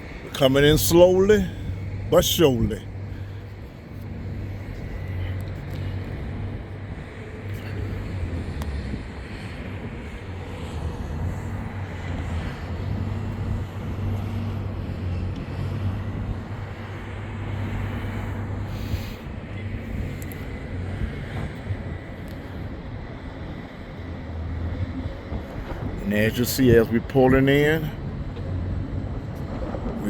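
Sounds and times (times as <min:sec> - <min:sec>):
ship engine drone and rumble: 0:00.0 - 0:30.0.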